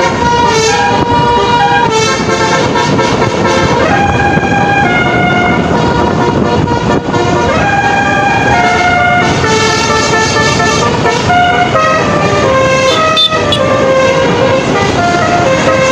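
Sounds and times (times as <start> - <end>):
musical bus horn playing tune: 0.0 - 15.9.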